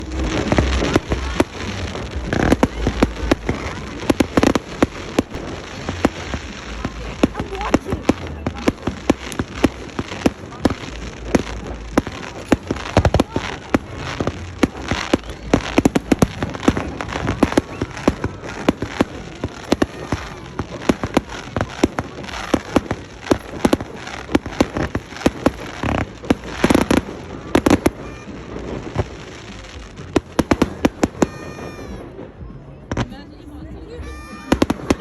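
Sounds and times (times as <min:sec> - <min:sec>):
steady hiss: 0:00.0 - 0:31.8
fireworks crackling and popping: 0:00.0 - 0:35.0.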